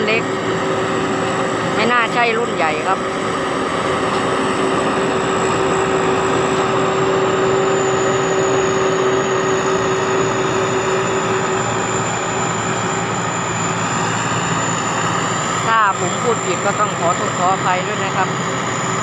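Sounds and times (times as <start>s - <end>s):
combine harvester engine running: 0.0s - 19.0s
high turbo whine: 0.0s - 19.0s.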